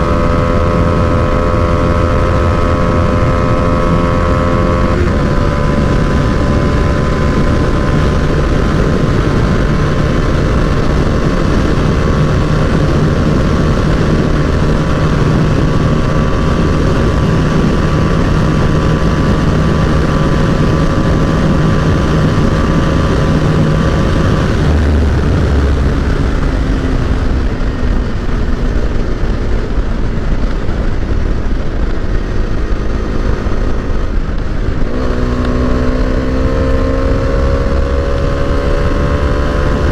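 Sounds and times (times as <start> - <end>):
lower engine note: 0.0 - 39.9
motorcycle engine at high speed: 0.0 - 39.9
wind rush: 0.0 - 39.9.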